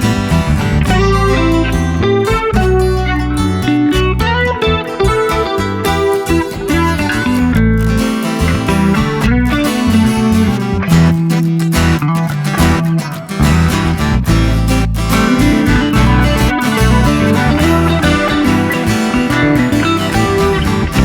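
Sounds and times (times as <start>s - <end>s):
guitar-led background music: 0.0s - 21.0s.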